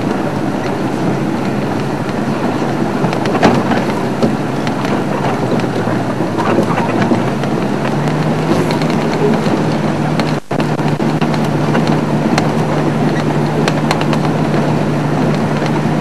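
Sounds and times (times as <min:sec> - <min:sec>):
vehicle engine drone: 0:00.0 - 0:16.0
vehicle rattles and knocks: 0:00.0 - 0:16.0.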